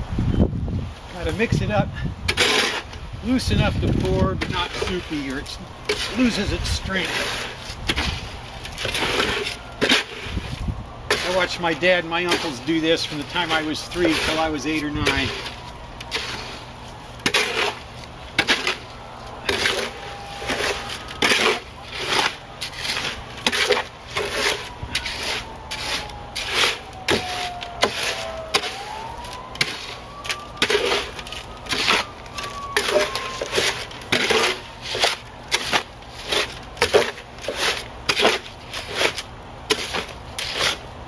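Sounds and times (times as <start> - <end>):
tool scraping and chopping concrete: 2.3 - 40.9.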